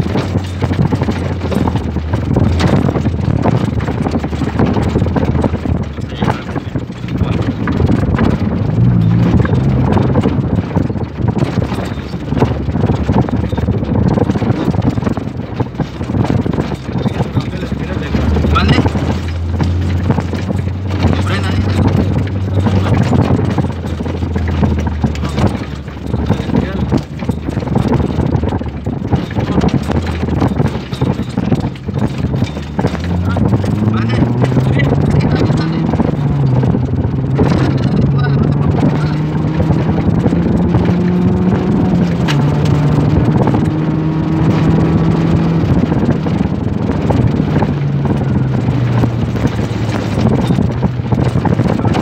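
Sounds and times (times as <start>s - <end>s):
off-road vehicle engine running: 0.0s - 52.0s
vehicle knocks and rattles: 0.0s - 52.0s.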